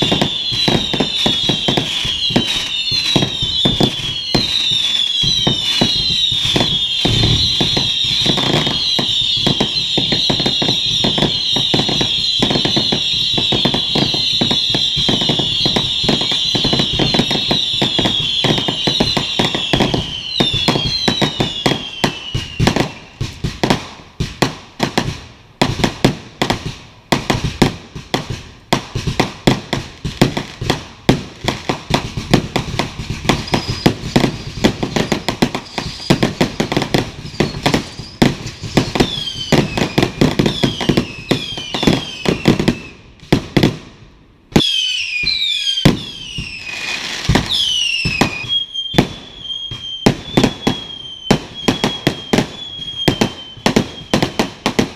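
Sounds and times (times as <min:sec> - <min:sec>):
fireworks bangs and crackles: 0:00.0 - 0:54.9
whistling fireworks: 0:00.0 - 0:54.9.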